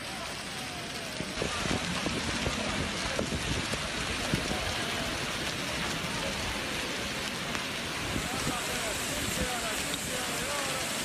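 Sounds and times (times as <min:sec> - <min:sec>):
hailstones ticking: 0:00.0 - 0:11.0
heavy rain on asphalt: 0:00.0 - 0:11.0.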